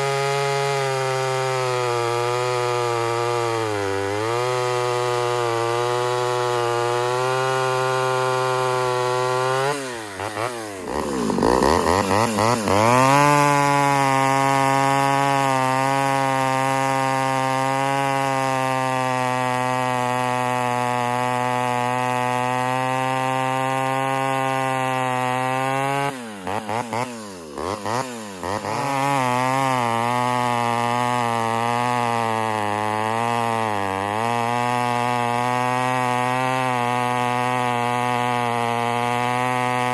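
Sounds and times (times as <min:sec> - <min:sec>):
chainsaw revving high: 0:00.0 - 0:39.9.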